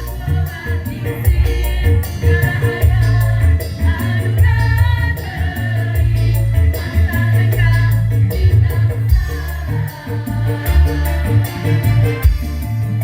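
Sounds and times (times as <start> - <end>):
women's choir singing: 0.0 - 12.9
instrumental accompaniment: 0.0 - 13.0
moving bass line: 0.0 - 13.0
ticking percussion beat: 0.0 - 13.0.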